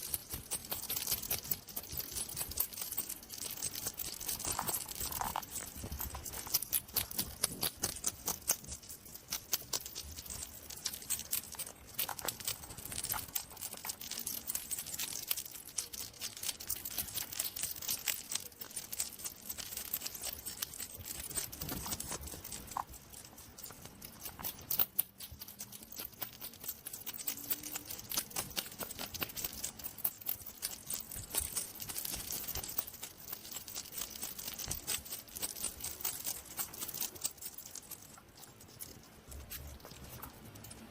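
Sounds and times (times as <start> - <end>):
hedgehog rustling and crunching: 0.0 - 40.9.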